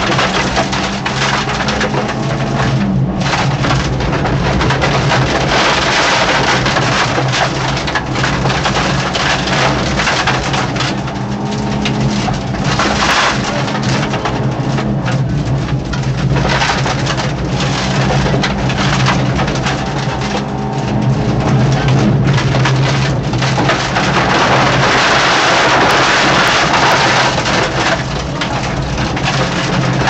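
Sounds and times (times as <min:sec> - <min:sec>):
car engine running hard: 0:00.0 - 0:30.0
road and tyre noise: 0:00.0 - 0:30.0.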